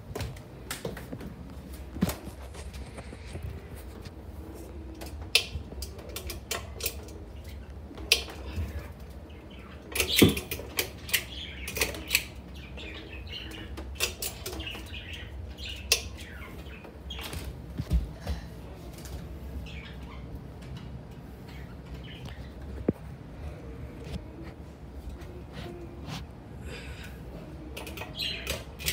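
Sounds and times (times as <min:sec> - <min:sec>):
ceiling fan hum: 0:00.0 - 0:28.9.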